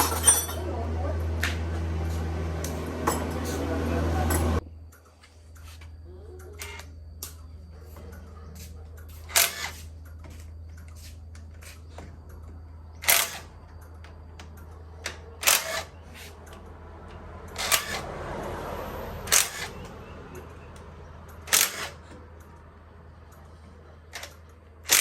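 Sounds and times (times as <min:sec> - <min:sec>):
tools and metal parts clicking: 0:00.0 - 0:00.8, 0:04.3 - 0:18.6, 0:19.2 - 0:25.0.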